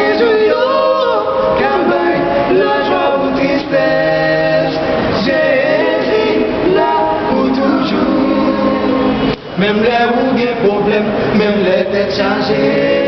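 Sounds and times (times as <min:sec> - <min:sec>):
male vocal trio singing: 0:00.0 - 0:13.0.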